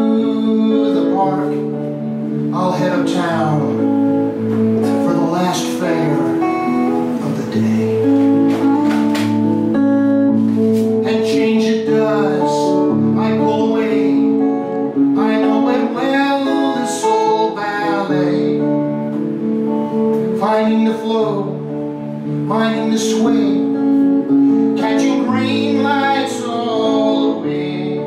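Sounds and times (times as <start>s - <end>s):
person singing: 0.0s - 4.2s, 4.8s - 9.0s, 11.0s - 19.1s, 20.2s - 28.0s
acoustic guitar music: 0.0s - 28.0s.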